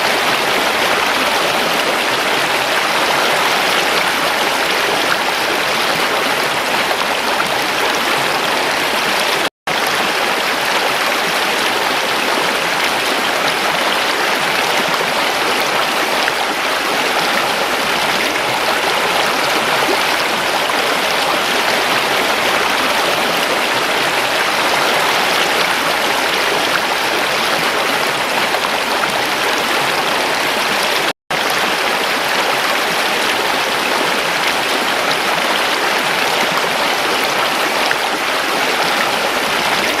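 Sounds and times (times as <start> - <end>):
stream flowing: 0.0 - 40.0.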